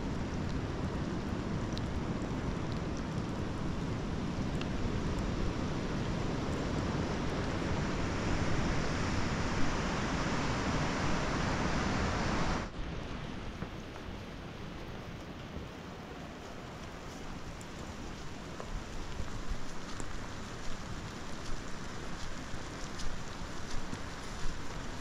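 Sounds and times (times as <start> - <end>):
heavy rain hissing on grass: 0.0 - 25.0
runoff water streaming: 0.0 - 25.0.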